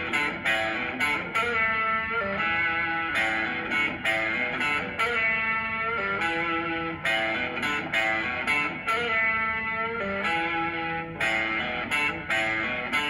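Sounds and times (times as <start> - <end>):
electric blues guitar riff: 0.0 - 13.0.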